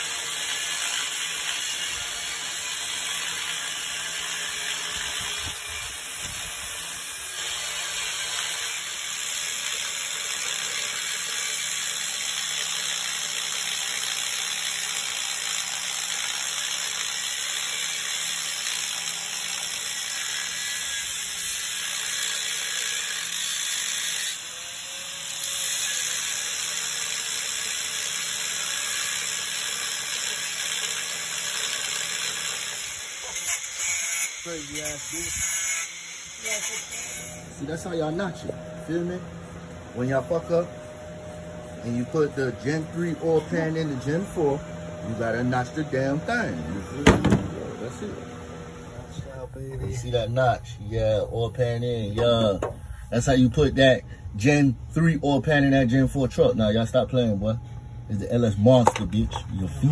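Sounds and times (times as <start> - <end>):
angle grinder grinding metal: 0.0 - 52.6.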